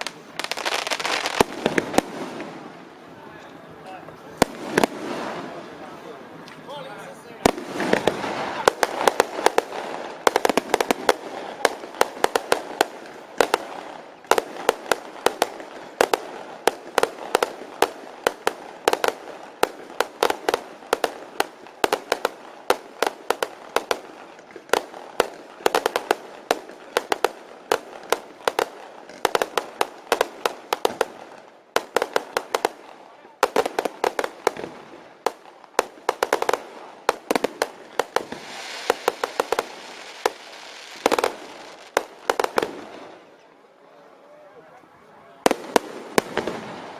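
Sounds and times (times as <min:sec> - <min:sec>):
fireworks cracking and popping: 0:00.0 - 0:43.4, 0:45.4 - 0:46.9
steady crackling haze: 0:00.0 - 0:46.9.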